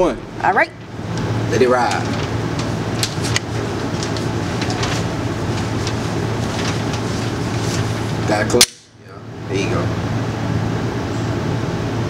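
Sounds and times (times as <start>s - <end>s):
ventilation fans humming: 0.0s - 12.0s.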